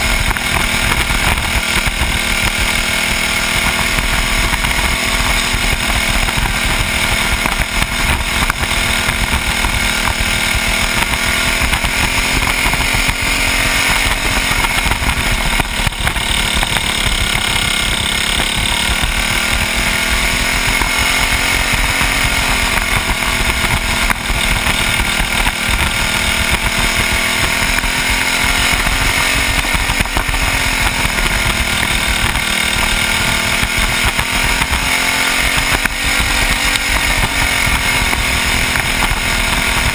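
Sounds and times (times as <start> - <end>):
kart engine revving high: 0.0 - 39.9.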